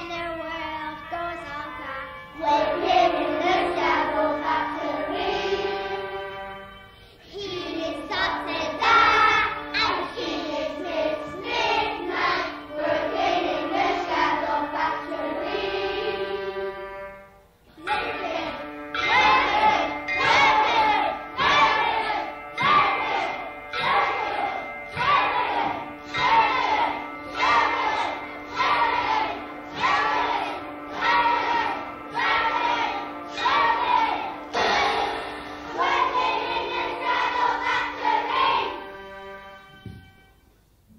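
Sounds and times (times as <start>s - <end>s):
children singing: 0.0s - 39.8s
massed voices pulsing: 2.4s - 39.6s.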